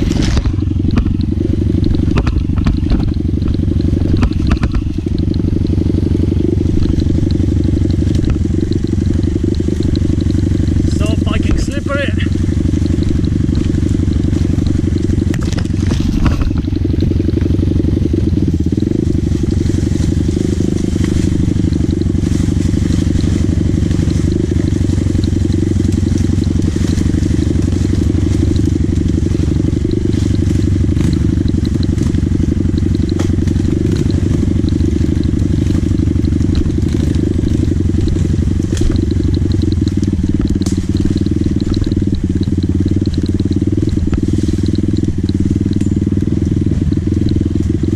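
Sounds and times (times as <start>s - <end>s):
dirt bike engine rumbling: 0.0s - 47.9s.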